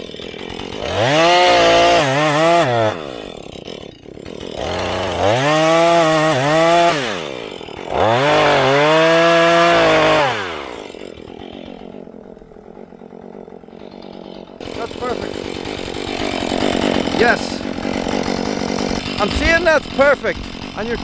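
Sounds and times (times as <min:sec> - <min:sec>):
chainsaw revving and idling: 0:00.0 - 0:21.0.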